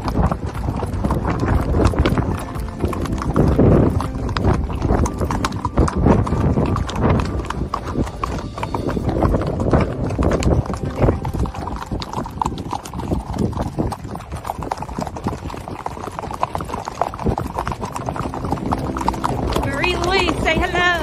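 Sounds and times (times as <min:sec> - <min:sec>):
horse hoofbeats on gravel: 0:00.0 - 0:21.0.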